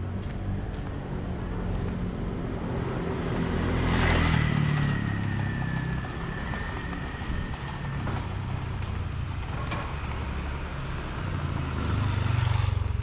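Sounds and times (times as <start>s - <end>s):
street traffic: 0.0s - 13.0s
motor scooter passing: 0.2s - 13.0s.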